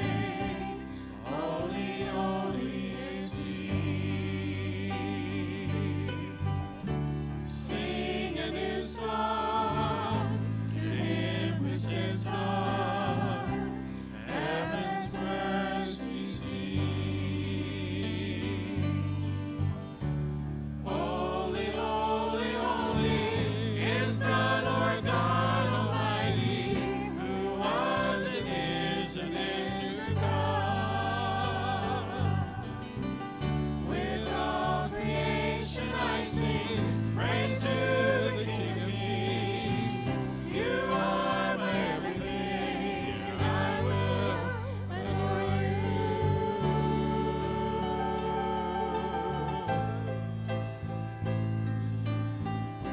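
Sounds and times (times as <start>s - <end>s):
voices singing with vibrato: 0.0s - 6.1s, 7.5s - 18.8s, 20.9s - 33.1s, 33.8s - 50.0s.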